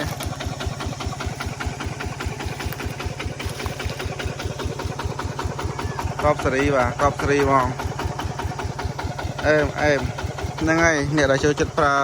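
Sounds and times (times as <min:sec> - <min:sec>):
diesel engine chugging: 0:00.0 - 0:12.0.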